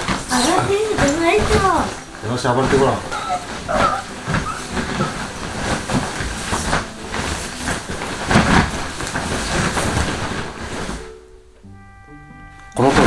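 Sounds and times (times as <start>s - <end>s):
sleeping bag fabric rustling: 0.0s - 11.6s.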